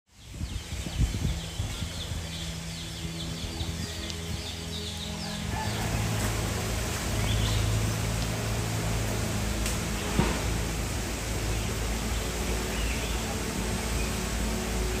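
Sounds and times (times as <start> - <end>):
birds chirping: 0.1 - 15.0
steady low hum: 0.3 - 15.0.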